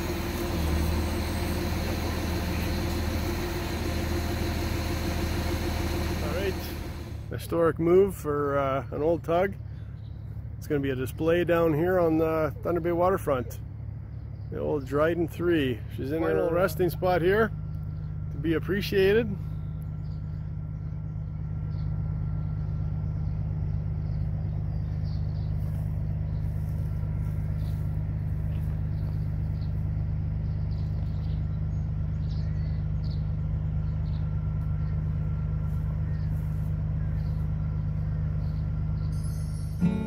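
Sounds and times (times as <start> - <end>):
heavy vehicle engine idling: 0.0 - 40.0.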